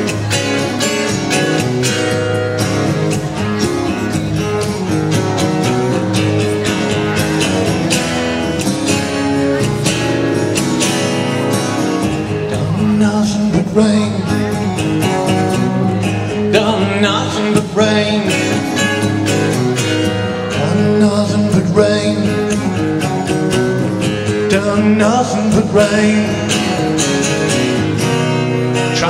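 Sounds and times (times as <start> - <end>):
live country-rock guitar band: 0.0 - 29.0.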